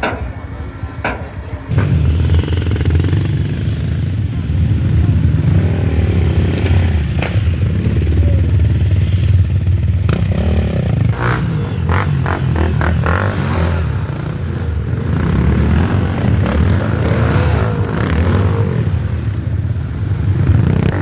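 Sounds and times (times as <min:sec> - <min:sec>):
motorcycle engine running: 0:01.4 - 0:21.0.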